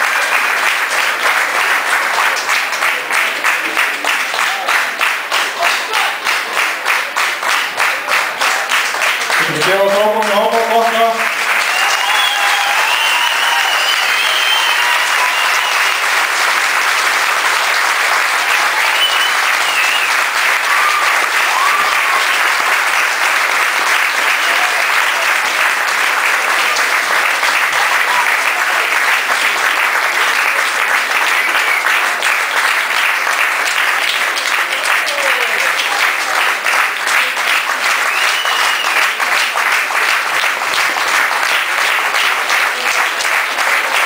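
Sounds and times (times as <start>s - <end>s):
crowd applauding: 0.0s - 44.0s.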